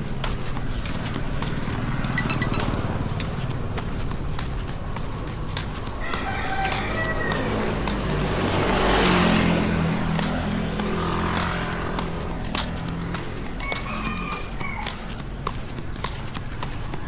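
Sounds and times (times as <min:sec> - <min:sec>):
vehicle passing by: 0:00.1 - 0:15.2.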